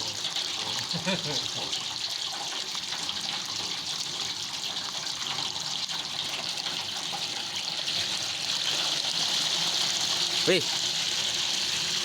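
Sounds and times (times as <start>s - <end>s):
water gushing from pump outlet: 0.0s - 12.0s.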